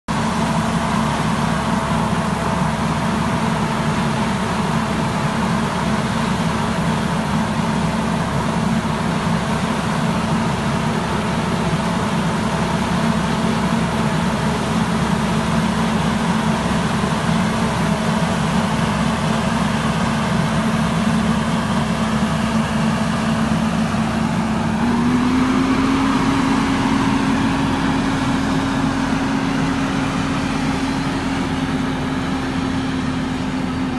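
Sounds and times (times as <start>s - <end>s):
sprayer machine droning: 0.1s - 33.9s.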